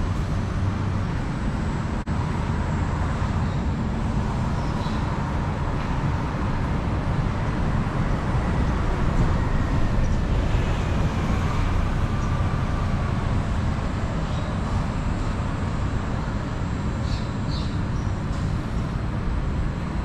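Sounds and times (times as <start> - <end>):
vehicles passing: 0.0 - 20.0.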